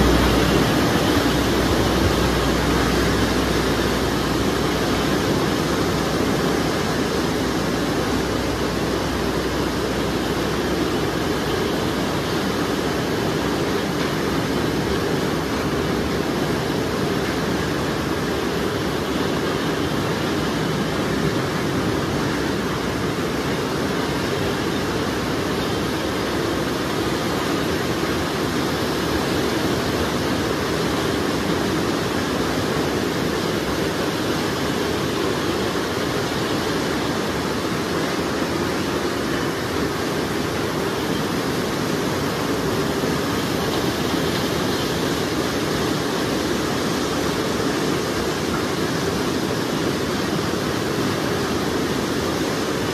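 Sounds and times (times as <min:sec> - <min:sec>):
empty bins rolling on tramway: 0:00.0 - 0:51.5.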